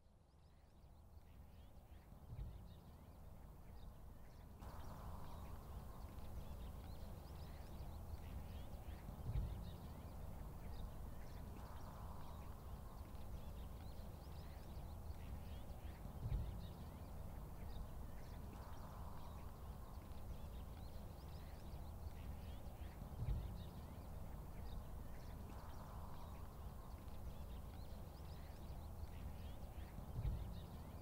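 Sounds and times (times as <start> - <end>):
faint bird chirps: 0.3 - 31.0
steady low rumble: 4.6 - 31.0.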